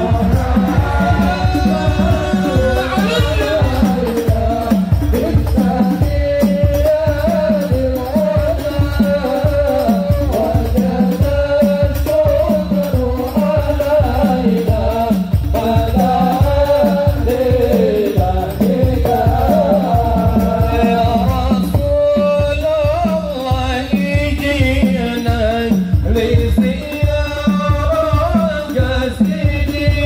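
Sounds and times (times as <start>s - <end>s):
devotional singing: 0.0s - 30.0s
hand drums beating: 0.0s - 30.0s.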